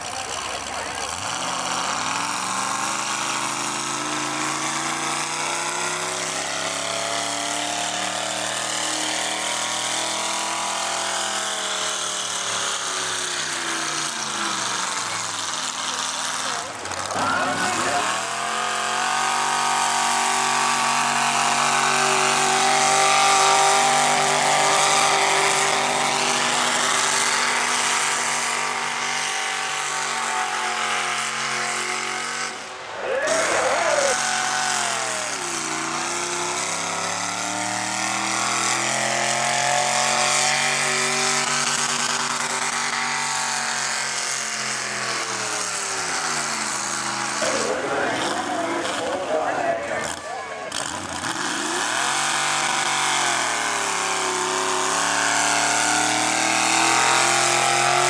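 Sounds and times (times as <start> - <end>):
tractor engine revving under load: 0.0 - 58.0.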